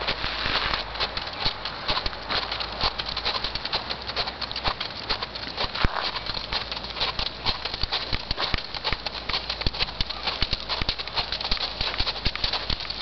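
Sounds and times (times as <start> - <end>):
horse hoofbeats on dirt: 0.0 - 13.0.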